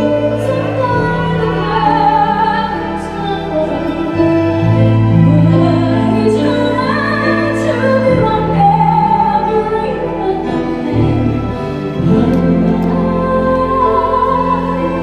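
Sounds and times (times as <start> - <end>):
band playing: 0.0 - 15.0
woman singing ballad: 0.0 - 15.0.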